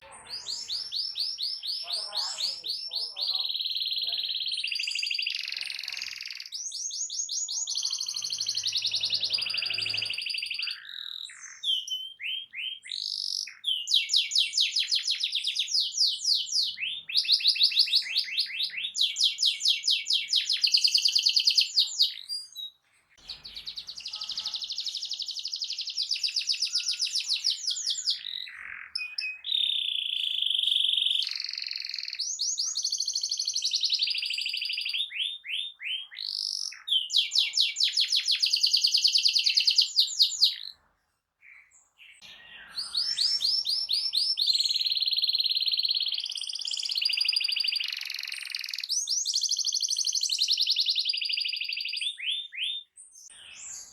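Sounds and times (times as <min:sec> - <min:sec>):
canary singing in fast trills: 0:00.0 - 0:40.9, 0:41.5 - 0:53.9.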